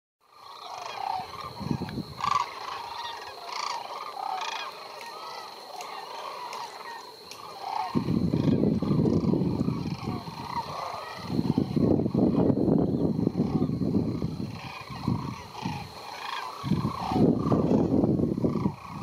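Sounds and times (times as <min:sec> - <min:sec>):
cranes trumpeting calls: 0:00.2 - 0:19.0.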